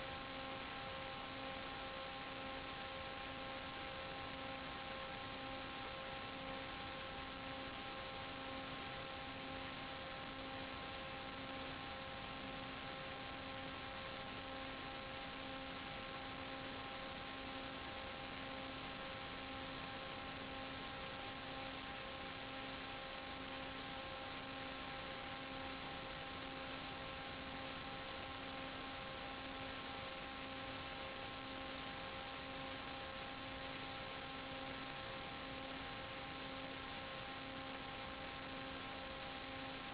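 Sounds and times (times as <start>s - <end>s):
pulsing electrical hum: 0.0s - 39.9s
steady hiss: 0.0s - 39.9s.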